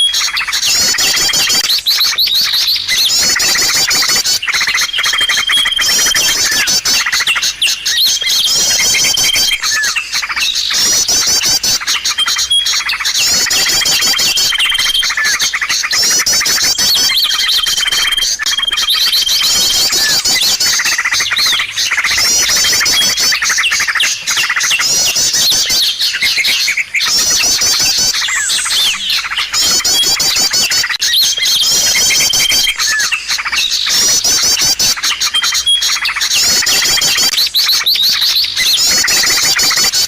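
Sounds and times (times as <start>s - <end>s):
songbirds chirping and twittering: 0.0s - 40.0s.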